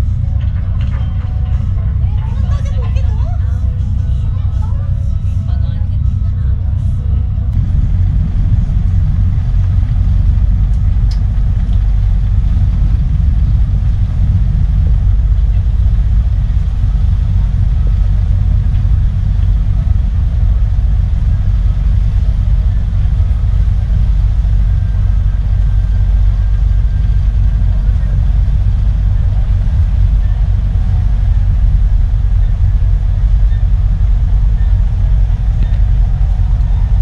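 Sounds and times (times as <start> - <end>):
ferry engines rumbling: 0.0 - 37.0
propellers churning water: 0.0 - 37.0.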